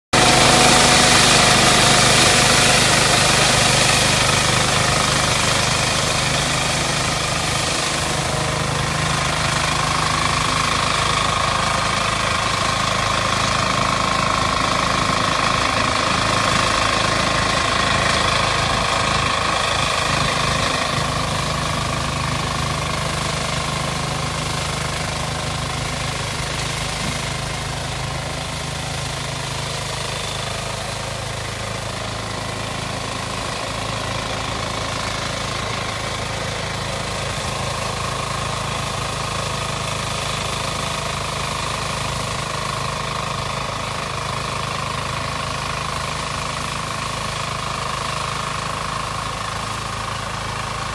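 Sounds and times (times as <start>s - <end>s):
combine harvester engine whine: 0.1s - 50.9s.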